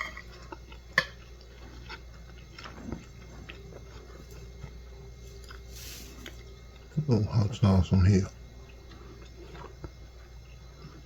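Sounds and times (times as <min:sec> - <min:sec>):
person chewing: 0:00.0 - 0:06.9, 0:08.5 - 0:11.0.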